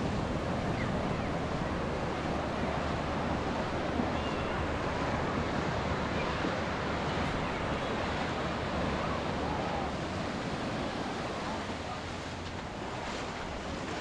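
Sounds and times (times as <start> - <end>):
ocean surf washing on beach: 0.0 - 14.0.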